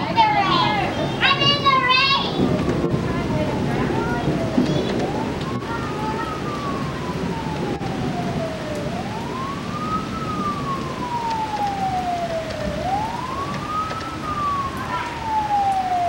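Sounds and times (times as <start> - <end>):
siren wailing: 0.0 - 16.0.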